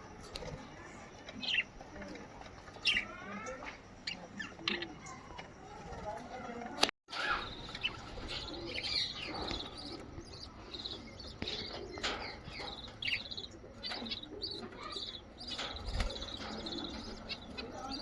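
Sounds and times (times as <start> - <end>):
budgerigars chirping and warbling: 0.0 - 18.0.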